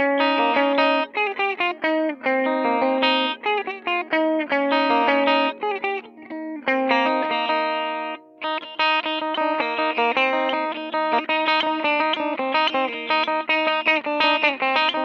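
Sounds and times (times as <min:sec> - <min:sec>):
electric guitar notes picked: 0:00.0 - 0:15.0.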